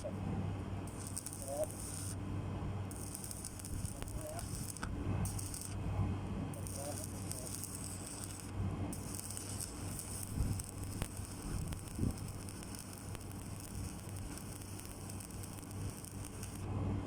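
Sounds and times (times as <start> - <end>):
welding arc crackling and hissing: 0.8 - 2.2, 2.9 - 5.8, 6.5 - 16.7.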